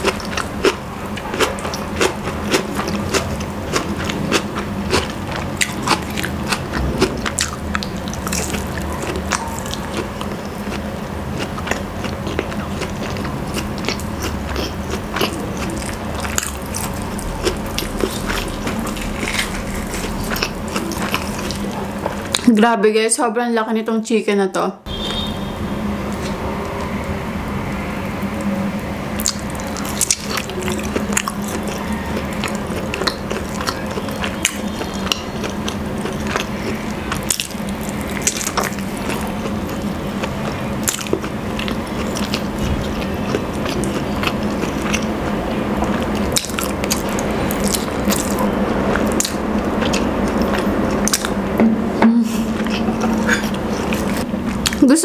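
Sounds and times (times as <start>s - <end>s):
chewing and biting food: 0.0s - 22.5s, 29.2s - 51.6s, 52.3s - 54.9s
steady low hum: 0.0s - 23.3s, 24.8s - 55.0s.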